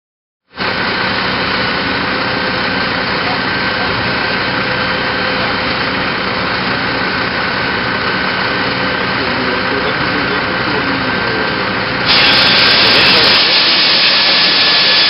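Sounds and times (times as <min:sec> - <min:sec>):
truck engine running: 0:00.5 - 0:15.0
thin steady whine: 0:00.6 - 0:15.0.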